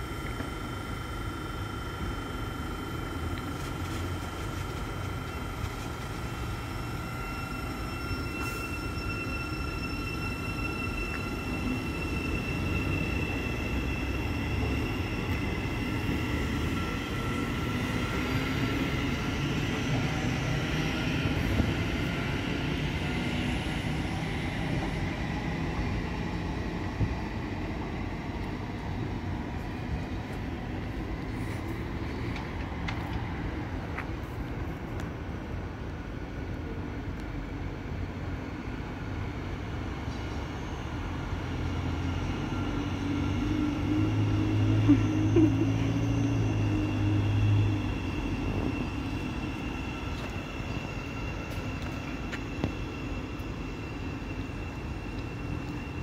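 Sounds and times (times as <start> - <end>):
electric train whine: 0.0 - 56.0
train rumbling away: 0.0 - 56.0.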